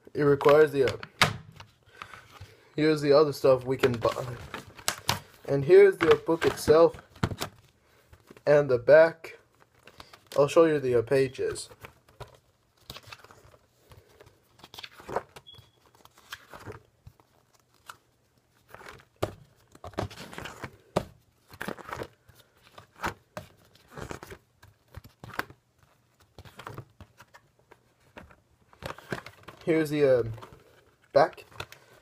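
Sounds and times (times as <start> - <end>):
book pages turning: 0.2 - 8.4, 9.4 - 10.6, 11.4 - 32.0.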